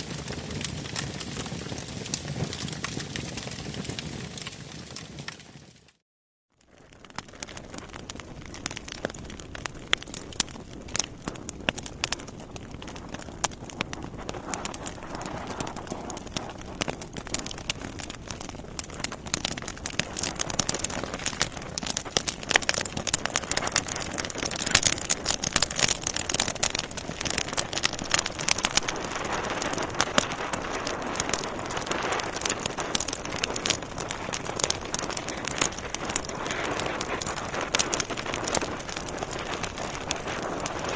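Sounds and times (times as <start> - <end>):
wood fire crackling and popping: 0.0 - 6.0, 6.6 - 40.9.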